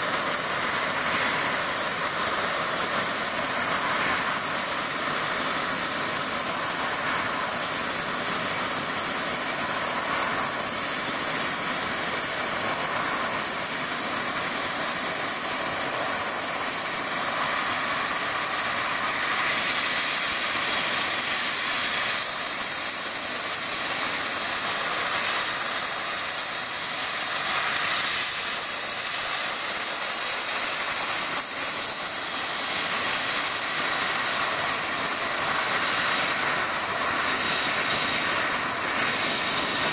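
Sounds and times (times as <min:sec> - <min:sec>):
laser cutter high hiss: 0:00.0 - 0:39.9.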